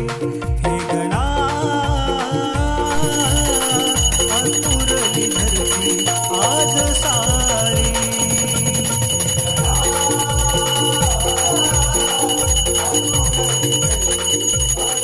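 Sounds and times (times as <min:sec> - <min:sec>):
devotional music with steady beat: 0:00.0 - 0:15.0
bell ringing: 0:02.8 - 0:15.0.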